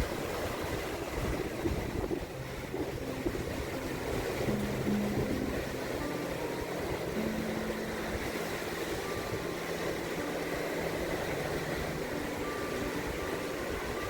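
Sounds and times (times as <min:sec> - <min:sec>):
ocean surf: 0:00.0 - 0:14.0
wind: 0:00.0 - 0:14.0
faint held tones: 0:02.2 - 0:14.0.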